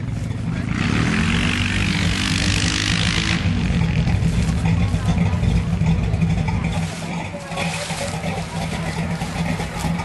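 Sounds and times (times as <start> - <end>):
truck engine running loudly: 0.0 - 10.0.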